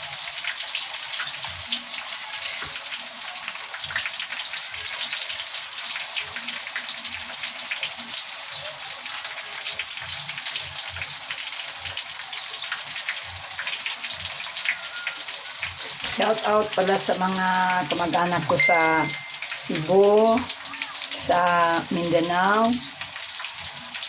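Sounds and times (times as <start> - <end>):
chicken frying in hot oil: 0.0 - 24.0.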